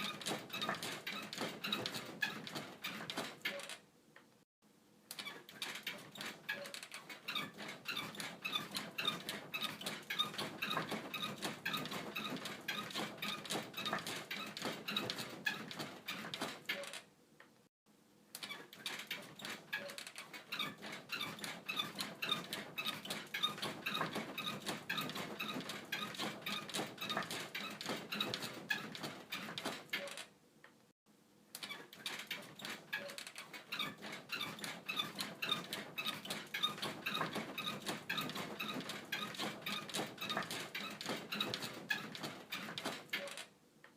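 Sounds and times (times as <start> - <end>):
bed creaking and squeaking: 0.0 - 3.8, 5.1 - 17.1, 18.4 - 30.3, 31.6 - 43.5.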